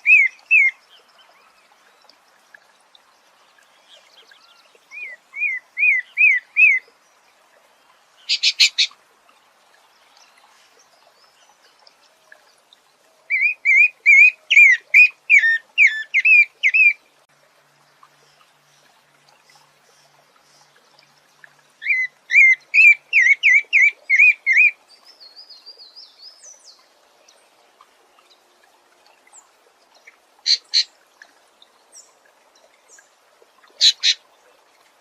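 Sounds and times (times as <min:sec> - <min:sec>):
songbird singing: 0:00.0 - 0:17.2, 0:18.1 - 0:34.6.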